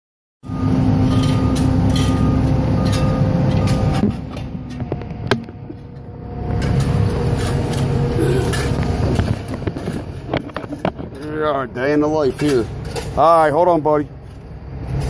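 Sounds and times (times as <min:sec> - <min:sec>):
heavy machinery engine rumbling: 0:00.4 - 0:15.0.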